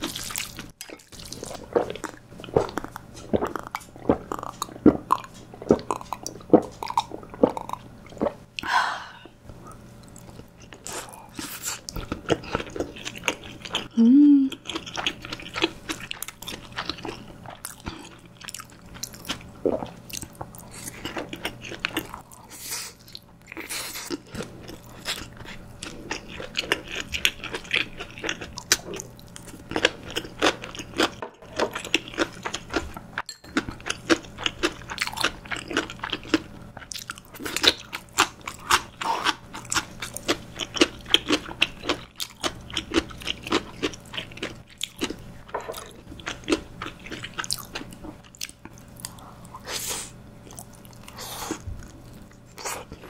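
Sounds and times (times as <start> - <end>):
chewing dumpling: 0.0 - 8.4, 9.7 - 49.7, 50.4 - 53.0.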